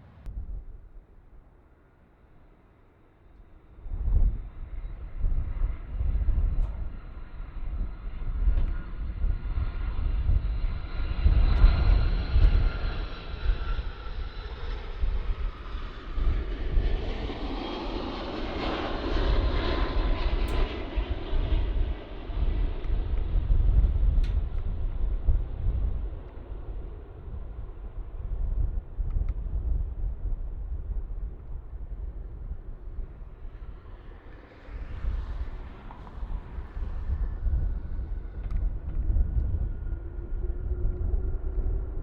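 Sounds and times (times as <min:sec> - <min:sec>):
jet airliner passing: 0:03.5 - 0:42.0
wind gusts on microphone: 0:03.8 - 0:42.0.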